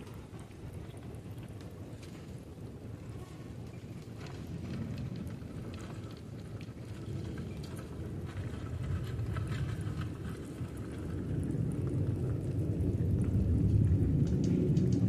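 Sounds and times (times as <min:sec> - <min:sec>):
faint ticks and crackles: 0:00.0 - 0:15.0
steady low rumble: 0:00.0 - 0:15.0.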